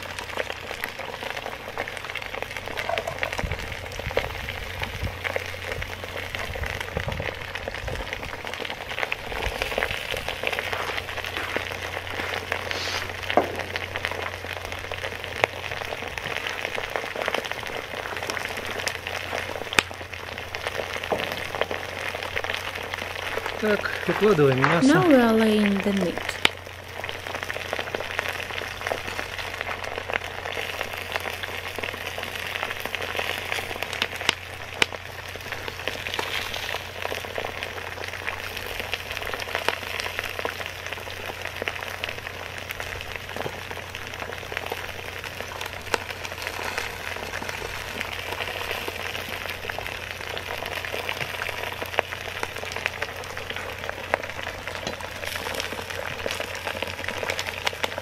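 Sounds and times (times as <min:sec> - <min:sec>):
onions sizzling in oil: 0:00.0 - 0:58.0
small crackles: 0:00.0 - 0:58.0.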